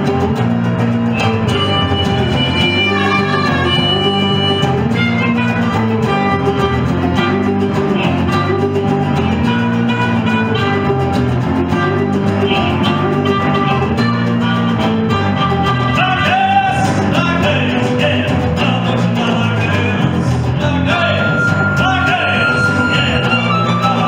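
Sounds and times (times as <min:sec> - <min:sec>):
electric guitar: 0:00.0 - 0:24.0
harmonica: 0:00.0 - 0:24.0
low repeating riff: 0:00.0 - 0:24.0
resonator guitar: 0:00.0 - 0:24.0.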